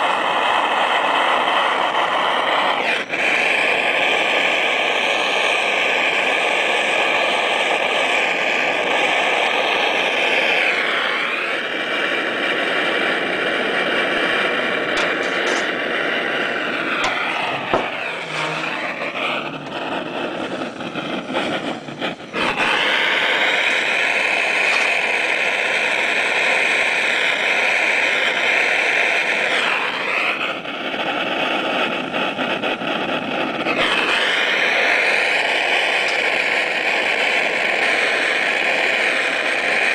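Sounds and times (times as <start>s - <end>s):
gas burner hissing: 0.0s - 39.9s.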